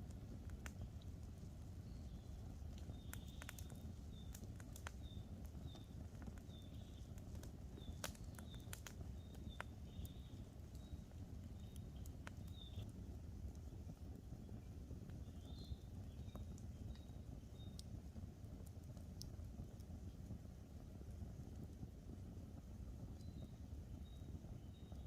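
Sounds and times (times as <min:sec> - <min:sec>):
small birds chirping: 0:00.0 - 0:21.0, 0:22.9 - 0:25.0
campfire crackling and popping: 0:00.0 - 0:25.0
low steady rumble: 0:00.0 - 0:25.0.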